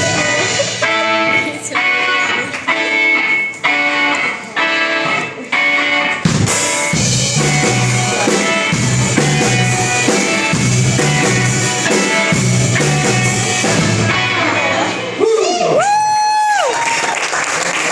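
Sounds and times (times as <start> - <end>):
drum kit: 0.0 - 15.2
strummed electric guitar: 0.0 - 15.2
bass guitar: 0.0 - 16.0.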